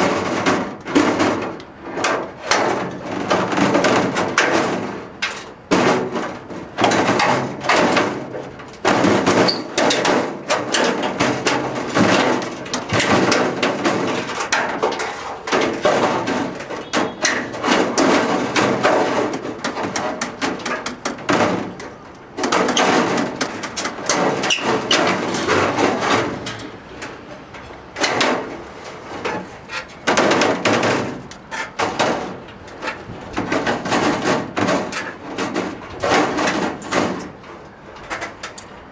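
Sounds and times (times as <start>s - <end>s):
sheet metal hammering and clattering: 0.0s - 38.8s.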